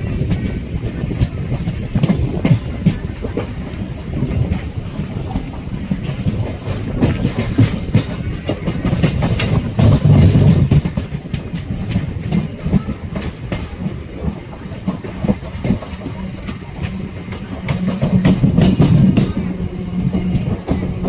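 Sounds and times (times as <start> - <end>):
steady low train hum: 0.0 - 21.0
train wheels clicking on rails: 0.0 - 21.0.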